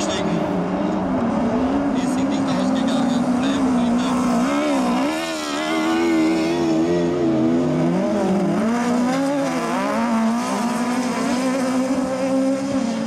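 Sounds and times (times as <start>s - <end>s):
racing buggy engines revving: 0.0s - 13.0s.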